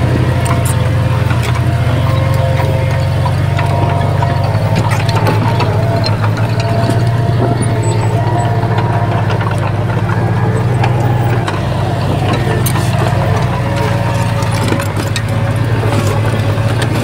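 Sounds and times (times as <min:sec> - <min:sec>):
diesel engine running: 0:00.0 - 0:17.0
short metal knocks and clanks: 0:00.1 - 0:17.0.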